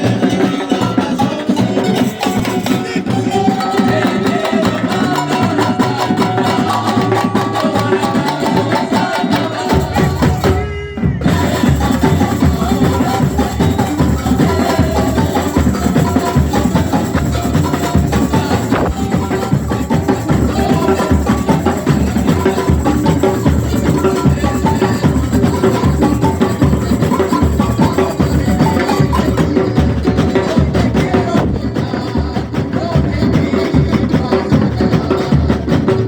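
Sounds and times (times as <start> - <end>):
drums and percussion playing: 0.0 - 36.0.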